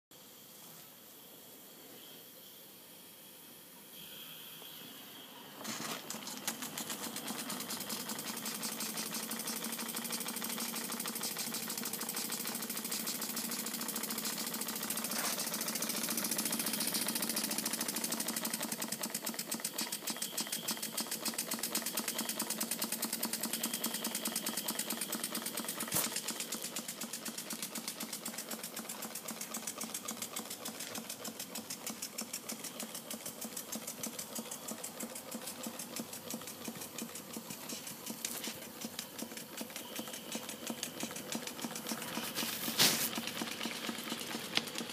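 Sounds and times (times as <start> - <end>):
steam hiss: 0.2 - 44.9
model steam engine running: 1.1 - 44.9.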